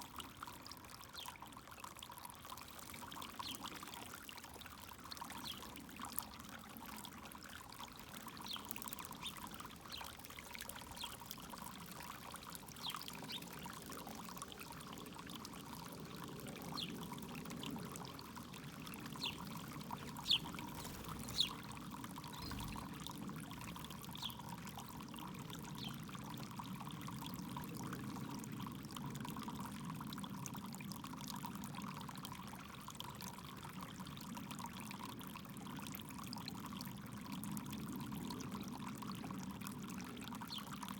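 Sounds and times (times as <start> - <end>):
fountain water pouring and trickling: 0.0 - 40.9.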